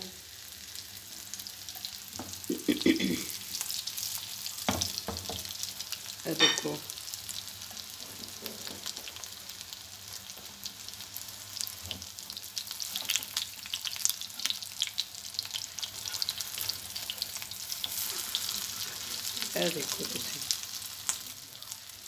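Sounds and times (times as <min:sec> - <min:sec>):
patties sizzling in oil: 0:00.0 - 0:22.0.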